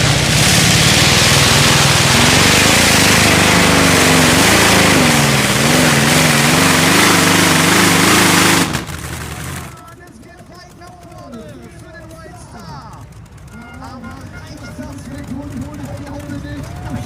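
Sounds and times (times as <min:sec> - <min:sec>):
radial aircraft engine running hard: 0:00.0 - 0:09.8, 0:12.0 - 0:17.0.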